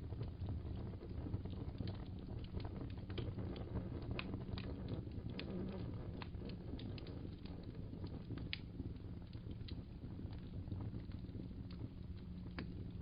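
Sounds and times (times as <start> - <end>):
low rumble: 0.0 - 13.0
wood fire crackling and popping: 0.0 - 13.0.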